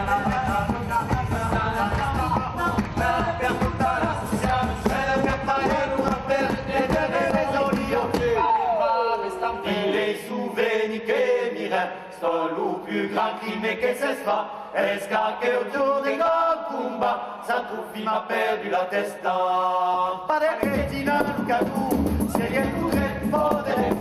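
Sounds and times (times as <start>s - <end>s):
men singing a cappella chant: 0.0s - 8.4s, 9.5s - 24.0s.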